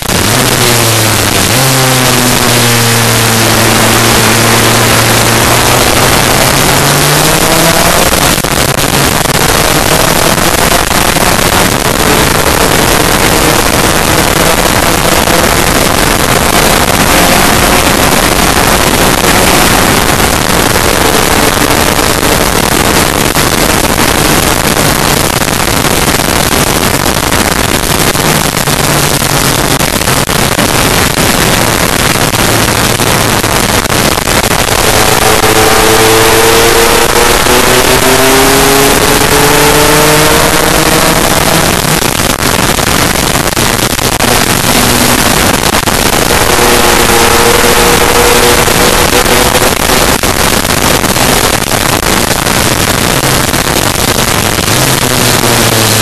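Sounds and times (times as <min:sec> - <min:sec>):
scooter two-stroke engine revving: 0:00.0 - 0:56.0
wind rush on microphone: 0:00.0 - 0:56.0.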